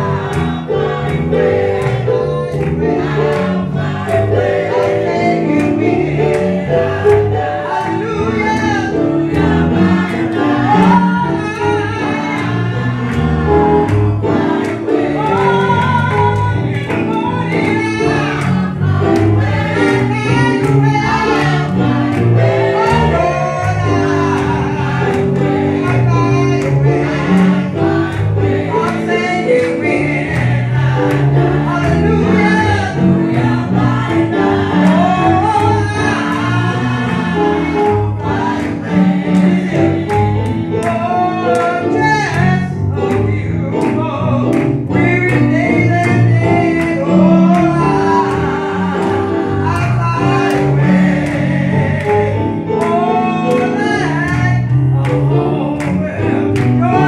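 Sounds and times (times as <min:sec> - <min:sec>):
women singing gospel: 0:00.0 - 0:43.6, 0:45.1 - 0:54.7.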